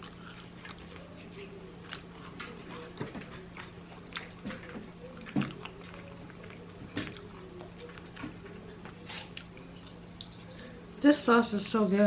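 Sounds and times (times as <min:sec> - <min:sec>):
wet chewing and mouth smacks: 0:00.0 - 0:10.3
steady low hum: 0:00.0 - 0:12.0.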